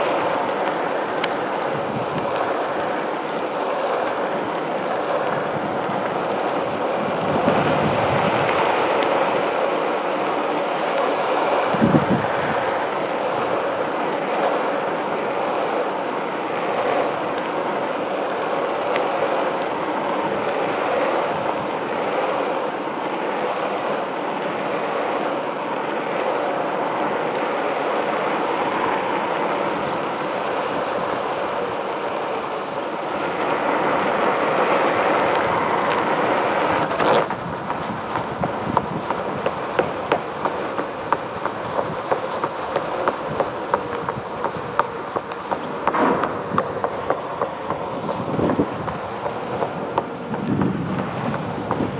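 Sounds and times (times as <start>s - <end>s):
tyre noise rolling on pavement: 0.0s - 51.9s.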